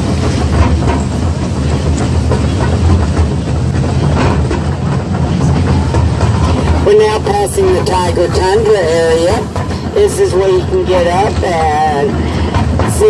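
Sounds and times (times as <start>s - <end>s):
train cars rattling on rails: 0.0s - 13.0s
train engine drone: 0.0s - 13.0s.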